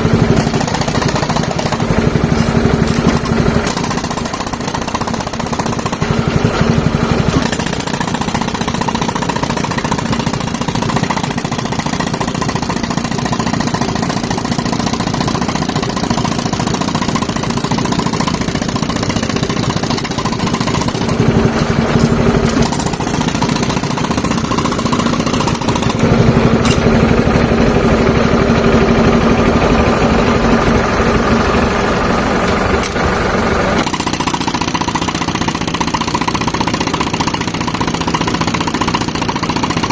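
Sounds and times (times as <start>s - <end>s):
air compressor rhythm: 0.0s - 39.9s
tractor engine running: 0.0s - 39.9s.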